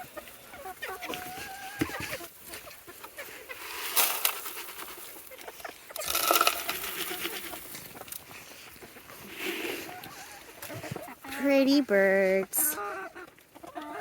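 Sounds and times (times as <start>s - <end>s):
feed bowls scraping and clinking: 0.0s - 14.0s.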